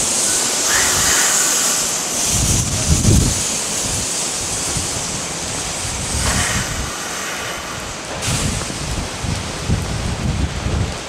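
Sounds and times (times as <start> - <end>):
electric train pulling away: 0.0 - 10.9
heavy rain pouring: 0.0 - 11.0
wind buffeting microphone: 0.0 - 11.0.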